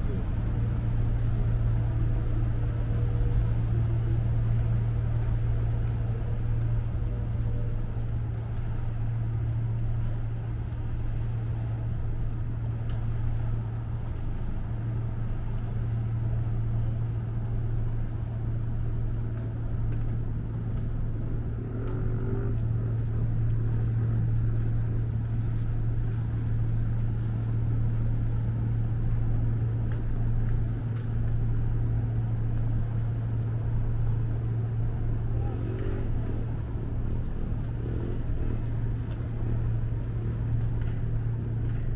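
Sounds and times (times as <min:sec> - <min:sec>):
boat engines droning: 0:00.0 - 0:41.9.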